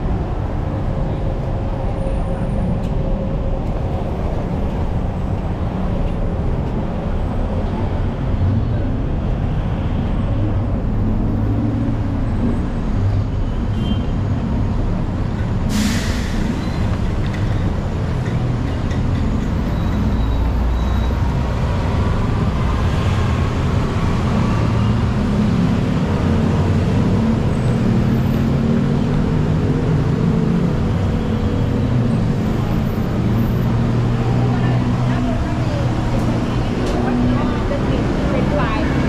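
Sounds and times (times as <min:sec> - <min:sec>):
heavy vehicle engines running: 0:00.0 - 0:39.0.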